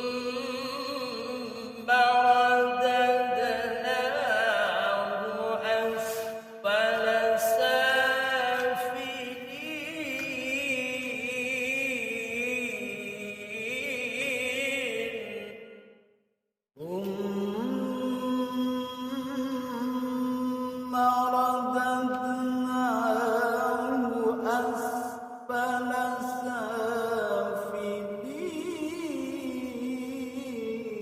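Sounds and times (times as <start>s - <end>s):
man chanting melodiously: 0.0s - 15.6s, 16.8s - 31.0s.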